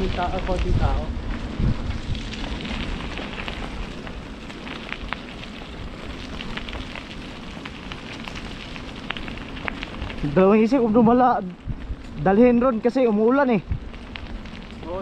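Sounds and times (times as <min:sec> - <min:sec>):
sharp ticks of raindrops hitting: 0:00.0 - 0:15.0
steady rain falling: 0:00.0 - 0:15.0.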